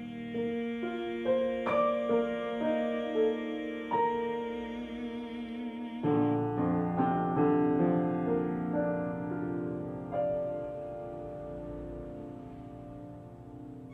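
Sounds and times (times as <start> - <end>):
piano chords: 0.0 - 13.9.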